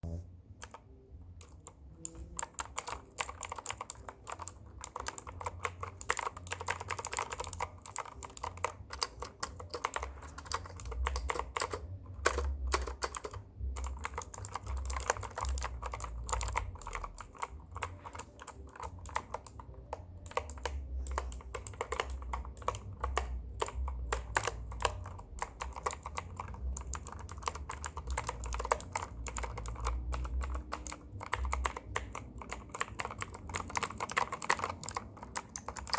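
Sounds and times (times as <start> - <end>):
keyboard typing: 0.4 - 35.9.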